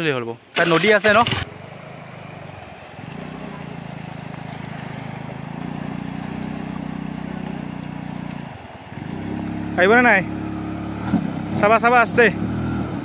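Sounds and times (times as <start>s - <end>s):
vehicle engine running: 0.6s - 13.0s.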